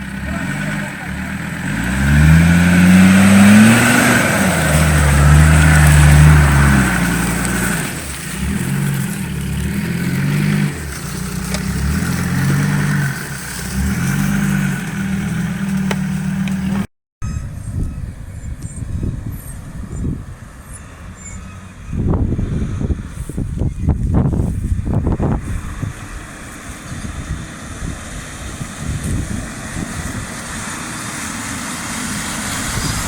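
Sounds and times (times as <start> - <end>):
engine revving under load: 0.0 - 16.9, 18.4 - 33.0.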